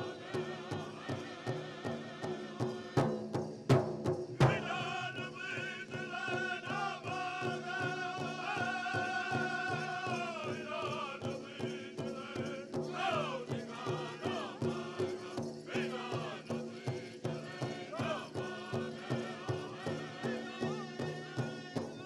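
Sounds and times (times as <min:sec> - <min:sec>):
high-pitched voices singing in unison: 0:00.0 - 0:03.1, 0:04.4 - 0:22.0
big drum steady beat: 0:00.0 - 0:22.0.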